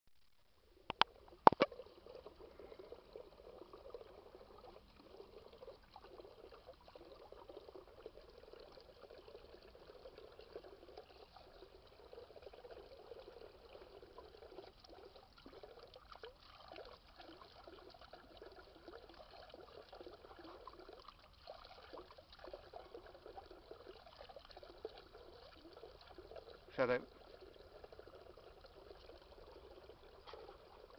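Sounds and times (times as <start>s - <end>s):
fountain water trickling and splashing: 0.7s - 30.9s
dog lapping water: 0.9s - 30.9s.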